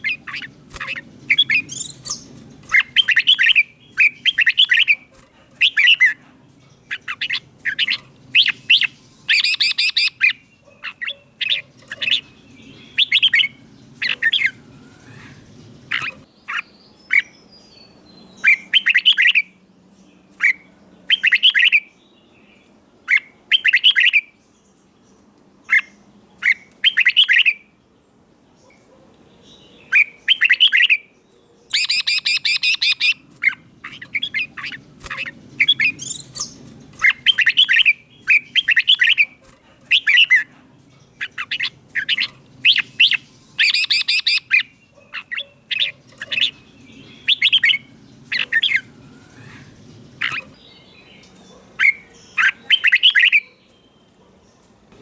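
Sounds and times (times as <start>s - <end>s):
bird whistled song: 0.0s - 6.2s, 6.9s - 19.6s, 20.4s - 22.5s, 23.1s - 24.4s, 25.7s - 27.7s, 29.5s - 31.1s, 31.7s - 40.5s, 41.2s - 54.2s.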